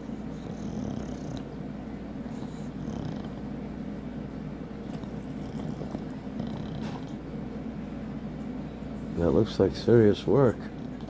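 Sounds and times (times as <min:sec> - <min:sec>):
puppy breathing with low rumble: 0:00.0 - 0:11.0.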